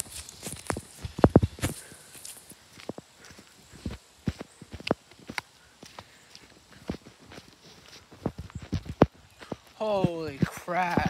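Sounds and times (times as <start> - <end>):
bare footsteps on asphalt: 0.0 - 11.0.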